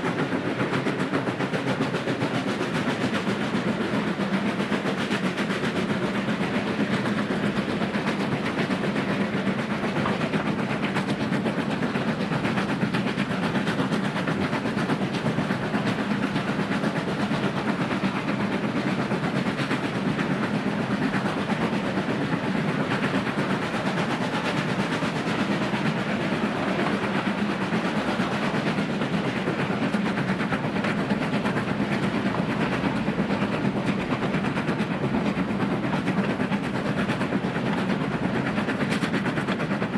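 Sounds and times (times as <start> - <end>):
steam locomotive exhaust: 0.0 - 39.9
wheels running on rails: 0.0 - 39.9.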